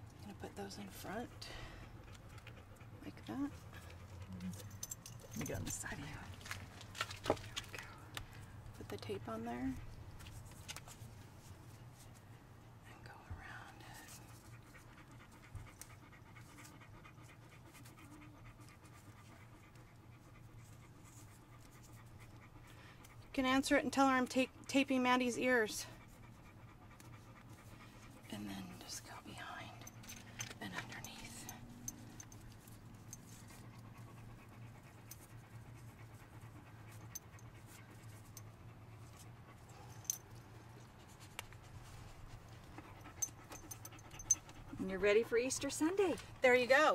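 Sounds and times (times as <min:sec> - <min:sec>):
dog panting: 0:00.0 - 0:12.4, 0:13.9 - 0:46.9.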